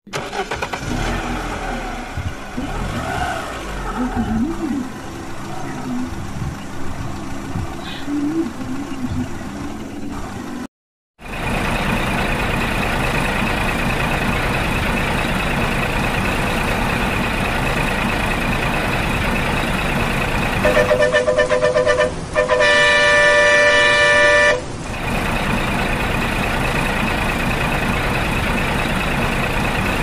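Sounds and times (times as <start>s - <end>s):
steady vehicle high whine: 0.1s - 30.0s
vehicle engine running: 0.1s - 30.0s.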